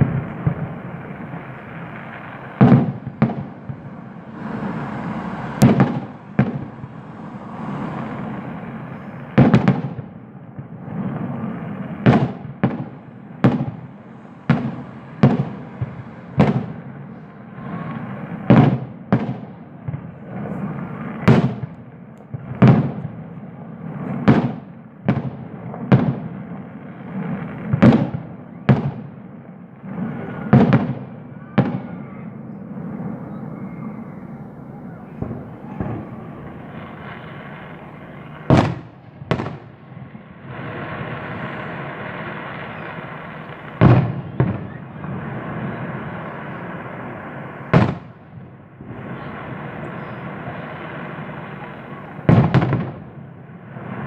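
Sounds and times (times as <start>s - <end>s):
fireworks bangs: 0.0s - 54.0s
steady background noise: 0.0s - 54.0s.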